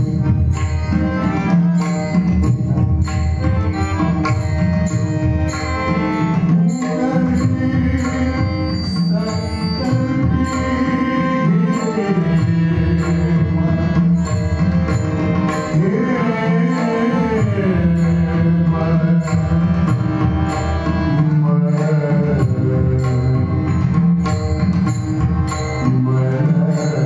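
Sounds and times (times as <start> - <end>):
drum playing: 0.0 - 26.7
hand cymbals striking: 0.0 - 27.0
sustained melody: 0.0 - 27.0.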